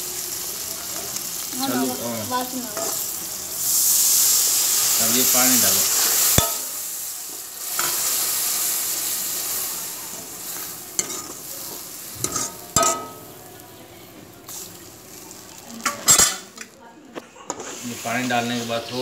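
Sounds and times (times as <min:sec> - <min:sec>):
water sizzling in hot oil: 0:00.0 - 0:16.8, 0:17.5 - 0:19.0.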